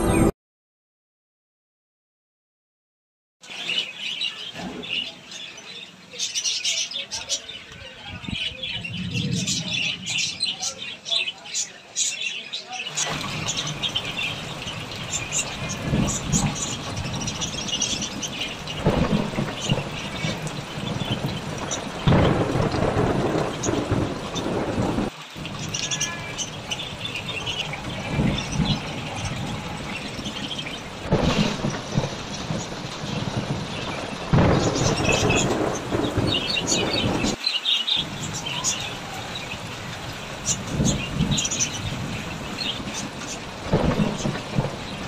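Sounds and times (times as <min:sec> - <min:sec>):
birds chirping: 0:03.4 - 0:45.0
steady rain: 0:03.4 - 0:45.0.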